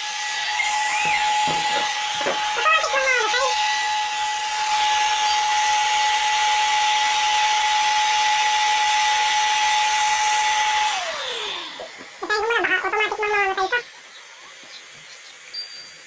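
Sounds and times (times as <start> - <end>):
electric air pump whining: 0.0 - 16.0.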